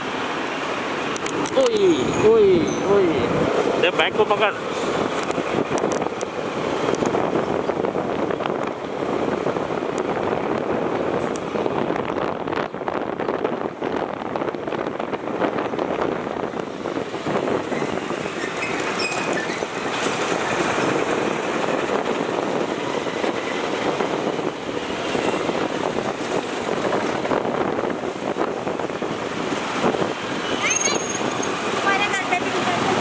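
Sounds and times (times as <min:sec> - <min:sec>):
surrounding traffic: 0:00.0 - 0:33.0
tyres on the road: 0:00.0 - 0:33.0
wind on microphone: 0:00.8 - 0:33.0.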